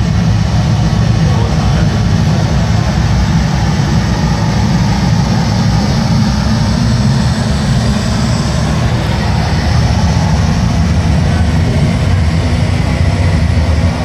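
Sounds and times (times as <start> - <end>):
jet engine rumble over loudspeakers: 0.0 - 14.0.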